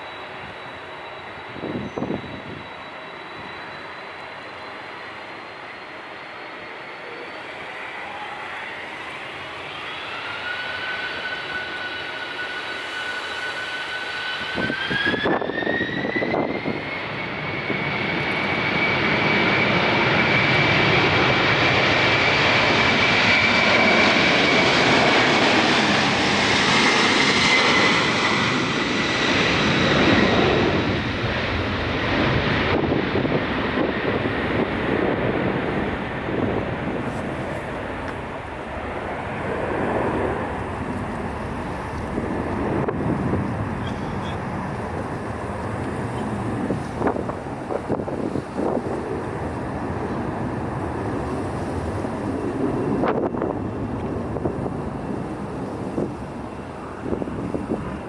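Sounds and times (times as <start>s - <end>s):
jet aircraft roar passing: 0.0s - 58.0s
jet engines whining: 0.0s - 58.0s.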